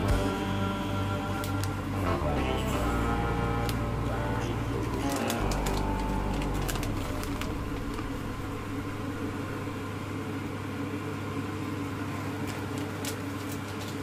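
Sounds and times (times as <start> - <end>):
low mechanical hum with hiss: 0.0 - 14.0.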